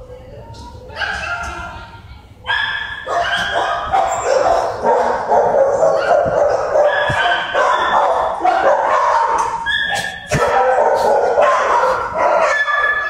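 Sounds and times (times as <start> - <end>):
dogs barking and yipping: 0.8 - 1.8, 2.4 - 13.0.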